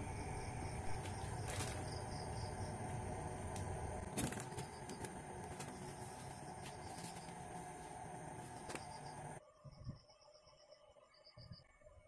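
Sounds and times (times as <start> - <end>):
steady low hum: 0.0 - 10.4
crickets chirping: 0.0 - 11.8.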